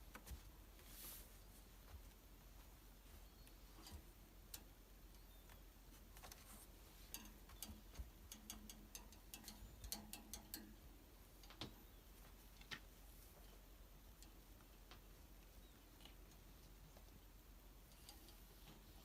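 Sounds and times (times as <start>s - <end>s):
light clicks and taps: 1.9s - 19.0s.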